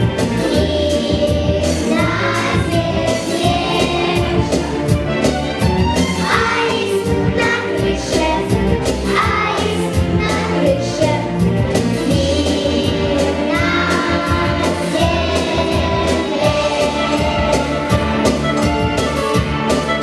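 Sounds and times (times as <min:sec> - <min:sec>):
children singing: 0:00.0 - 0:04.7, 0:06.2 - 0:11.3, 0:12.0 - 0:18.4
backing track with steady beat: 0:00.0 - 0:20.0.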